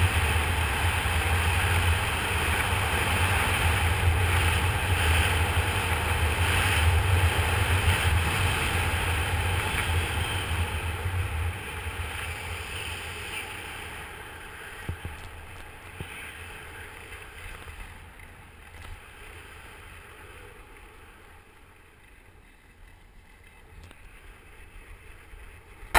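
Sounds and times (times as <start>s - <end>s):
skis hissing over snow: 0.0s - 25.8s.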